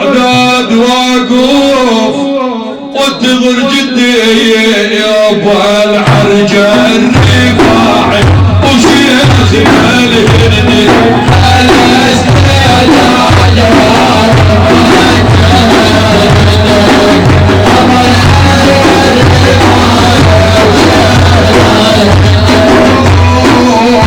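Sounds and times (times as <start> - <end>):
praise song music with drums: 0.0 - 24.0.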